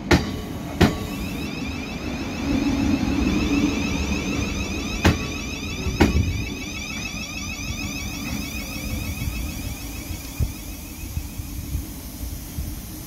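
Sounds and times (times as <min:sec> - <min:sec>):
electric train rolling past: 0:00.0 - 0:13.0.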